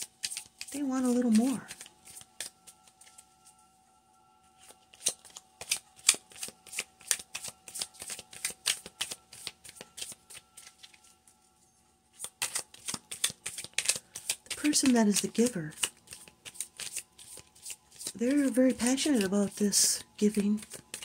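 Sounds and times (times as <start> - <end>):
cards being shuffled: 0.0 - 3.2, 4.6 - 11.1, 12.1 - 21.0.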